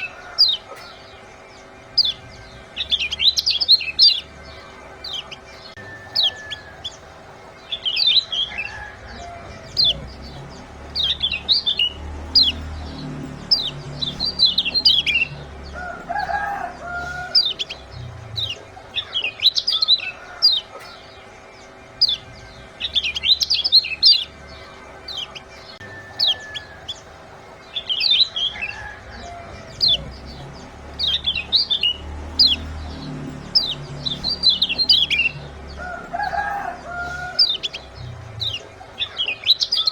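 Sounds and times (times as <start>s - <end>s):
lower bird call: 0.0s - 39.9s
small songbirds chirping: 0.0s - 39.9s.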